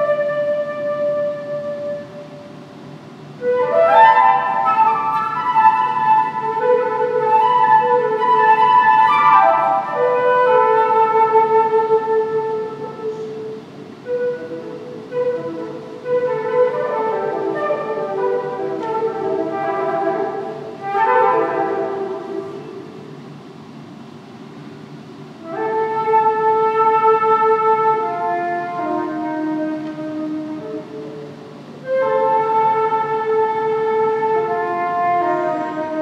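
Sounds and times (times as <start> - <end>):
solo flute playing: 0.0 - 23.3, 25.3 - 36.0.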